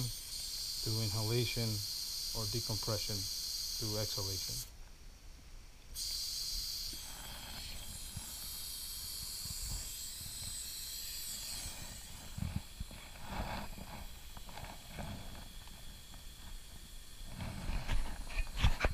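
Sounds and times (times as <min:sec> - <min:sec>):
oxygen hissing: 0:00.0 - 0:04.7, 0:06.0 - 0:18.6.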